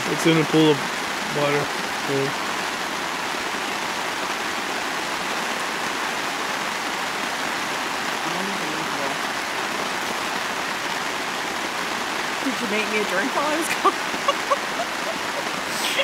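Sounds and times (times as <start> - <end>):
heavy rain on a tarp: 0.0 - 16.0.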